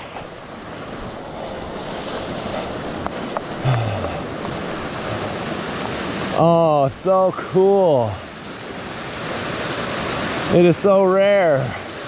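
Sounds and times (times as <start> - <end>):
rushing creek water: 0.0 - 12.0.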